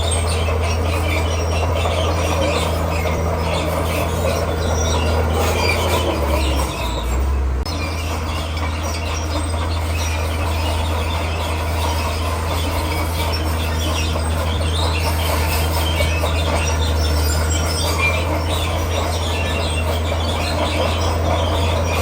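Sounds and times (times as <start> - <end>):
bulldozer diesel engine running: 0.0 - 22.0
steel tracks clattering on rock: 0.0 - 22.0.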